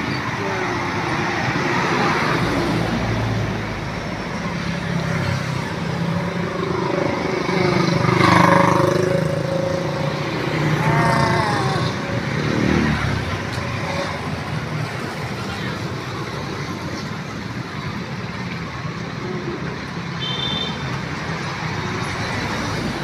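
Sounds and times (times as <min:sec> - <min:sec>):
car and motorcycle engines passing: 0:00.0 - 0:20.2, 0:20.8 - 0:23.0.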